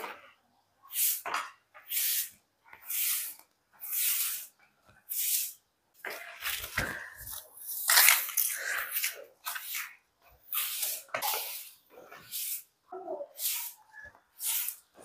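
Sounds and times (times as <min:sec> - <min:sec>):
broom sweeping tiled floor: 0:00.0 - 0:15.0.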